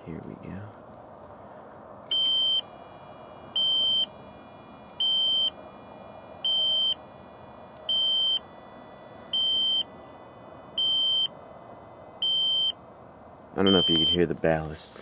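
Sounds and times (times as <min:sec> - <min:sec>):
faint steady hum: 0:00.0 - 0:15.0
electronic warning beep: 0:02.1 - 0:14.6.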